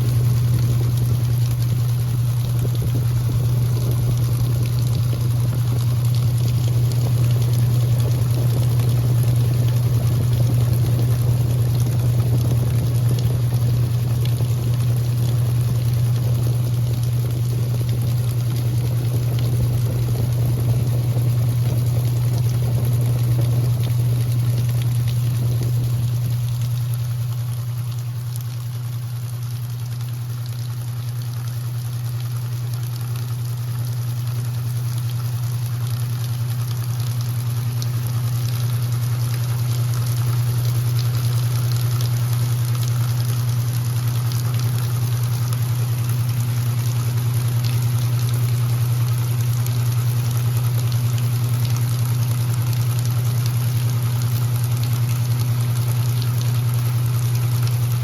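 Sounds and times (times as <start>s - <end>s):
moving water: 0.0s - 58.0s
washing machine low hum: 0.0s - 58.0s.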